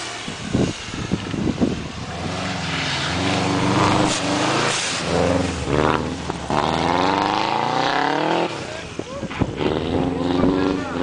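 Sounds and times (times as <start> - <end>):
rally car engine revving past: 2.0 - 11.0.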